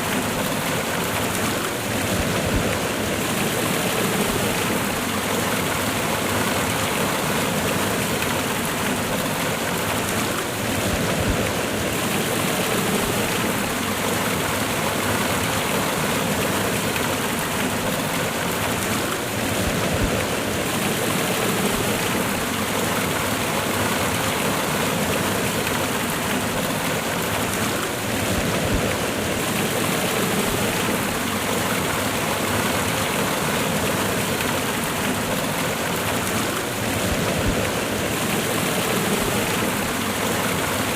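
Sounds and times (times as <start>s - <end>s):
waterfall rushing over rocks: 0.0s - 40.9s.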